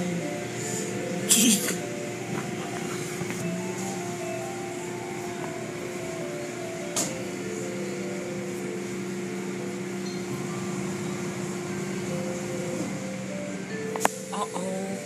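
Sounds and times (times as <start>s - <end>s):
car wash motor hum: 0.0s - 15.0s.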